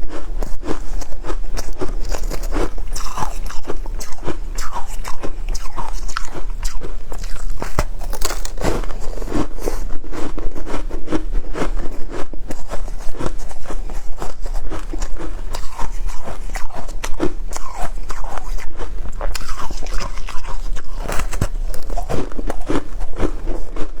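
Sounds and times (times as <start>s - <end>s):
person chewing shaved ice: 0.0s - 24.0s.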